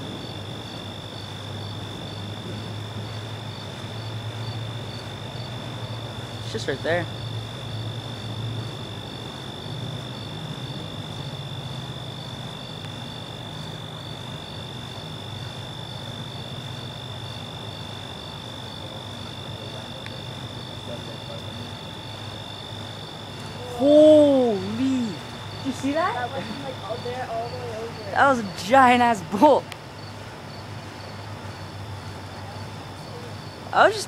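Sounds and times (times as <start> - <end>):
insect high trill: 0.0 - 34.0
low steady hum: 0.0 - 34.0
pulsed insect chirp: 0.0 - 34.0.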